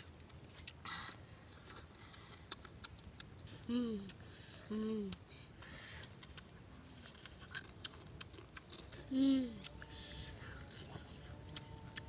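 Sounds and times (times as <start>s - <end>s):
person chewing with crackles: 0.0s - 12.0s.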